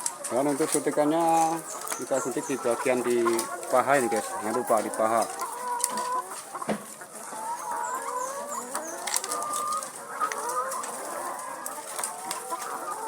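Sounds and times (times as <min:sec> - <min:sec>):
hens clucking and calling: 0:00.0 - 0:13.0.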